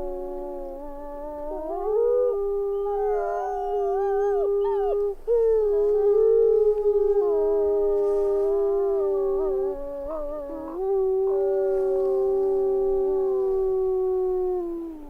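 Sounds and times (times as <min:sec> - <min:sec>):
wolves howling: 0:00.0 - 0:15.0.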